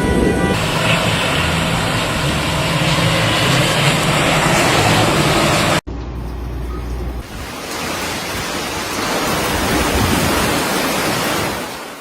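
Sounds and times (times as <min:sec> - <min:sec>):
storm rushing noise: 0:00.0 - 0:05.8, 0:07.1 - 0:12.0.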